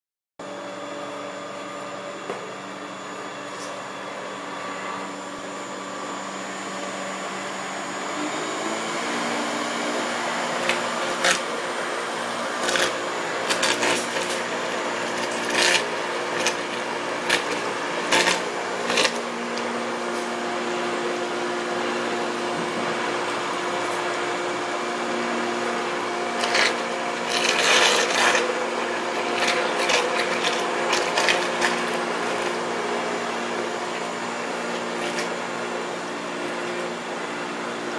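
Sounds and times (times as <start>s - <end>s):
mixer motor humming: 0.4s - 37.9s.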